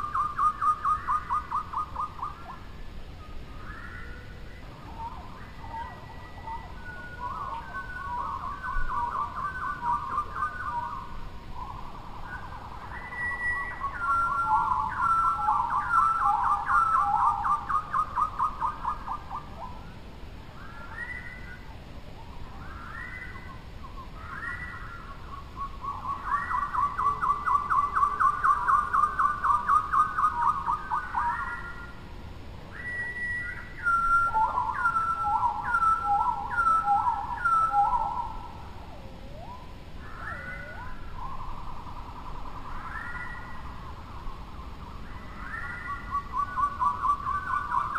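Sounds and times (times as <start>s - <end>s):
bird song with whistled trills: 0.0s - 47.9s.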